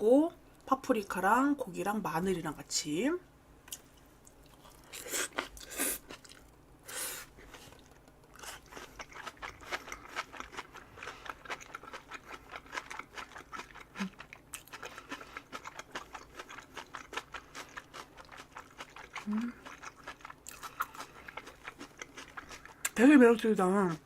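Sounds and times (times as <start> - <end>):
crunchy wet chewing: 3.7 - 6.6, 7.2 - 24.0.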